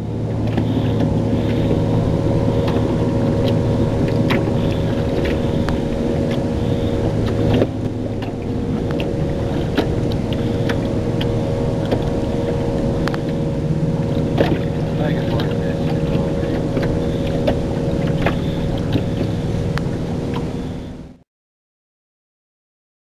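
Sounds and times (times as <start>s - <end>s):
engine droning: 0.0s - 21.2s.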